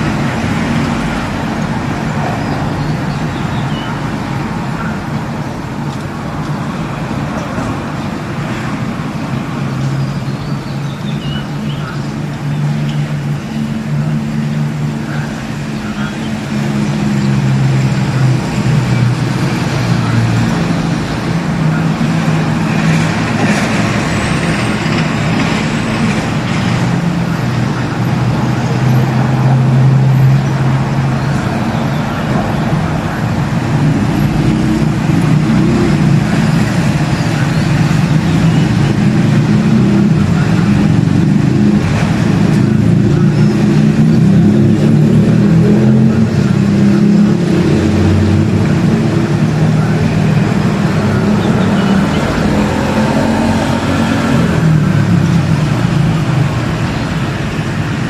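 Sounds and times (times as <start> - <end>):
motor vehicle traffic noise: 0.0 - 58.0.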